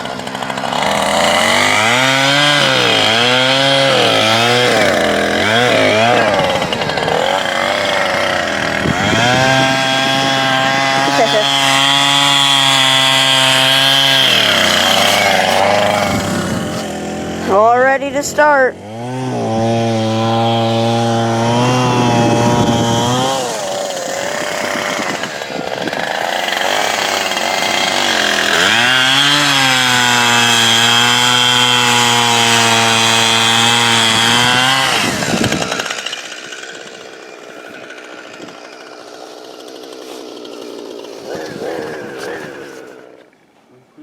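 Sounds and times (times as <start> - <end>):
chainsaw revving: 0.0 - 43.4.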